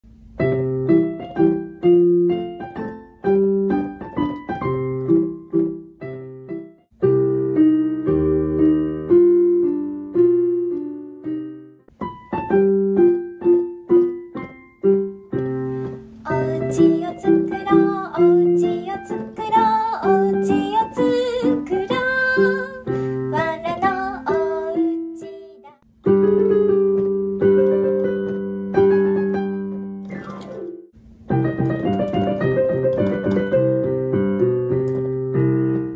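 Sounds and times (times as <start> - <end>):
solo piano: 0.0 - 35.9.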